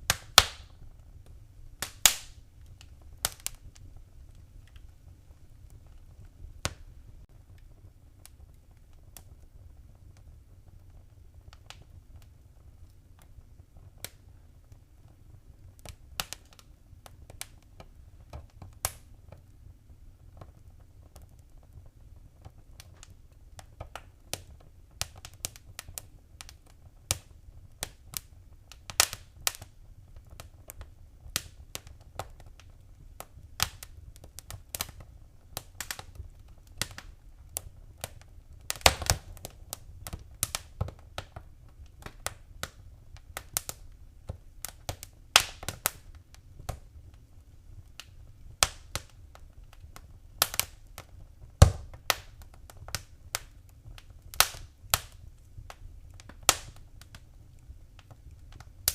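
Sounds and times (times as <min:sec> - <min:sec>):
fire crackling and popping: 0:00.0 - 0:58.9.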